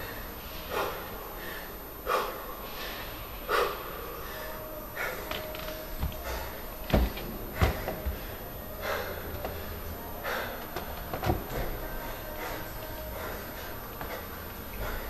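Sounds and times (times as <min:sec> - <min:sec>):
man breathing hard: 0:00.0 - 0:15.0.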